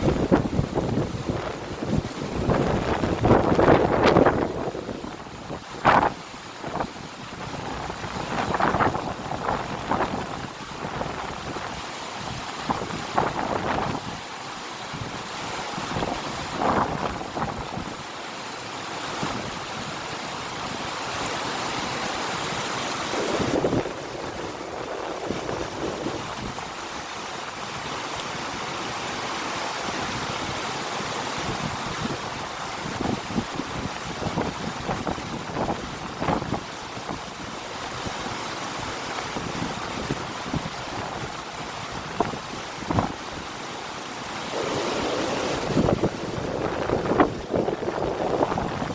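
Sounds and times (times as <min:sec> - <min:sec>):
wind on microphone: 0:00.0 - 0:14.2, 0:14.9 - 0:18.1, 0:19.1 - 0:29.0, 0:29.6 - 0:48.9
river water rushing: 0:00.0 - 0:48.9.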